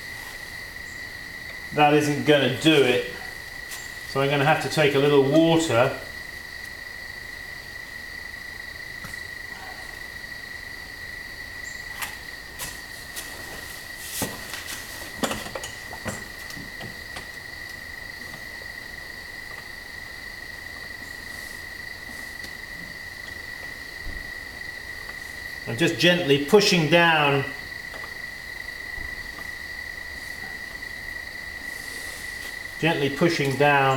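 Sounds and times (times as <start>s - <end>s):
steady high-pitched whine: 0.0s - 33.9s.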